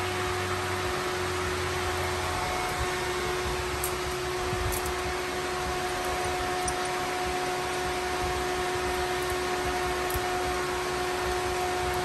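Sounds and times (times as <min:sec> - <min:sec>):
electric fan whirring: 0:00.0 - 0:12.0.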